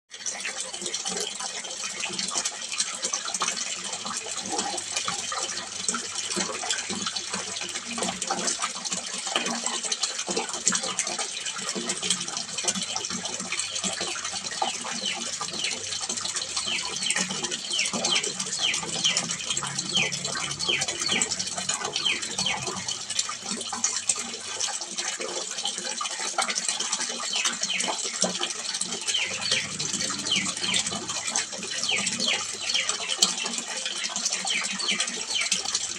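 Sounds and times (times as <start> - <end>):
water splashing into a pond: 0.2 - 35.9.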